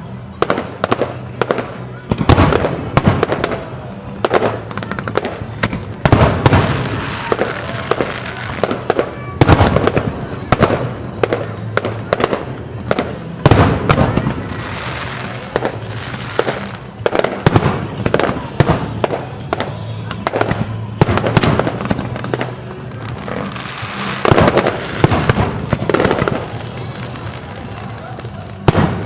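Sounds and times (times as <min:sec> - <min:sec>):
fireworks exploding: 0:00.0 - 0:29.0
music playing: 0:00.0 - 0:29.0.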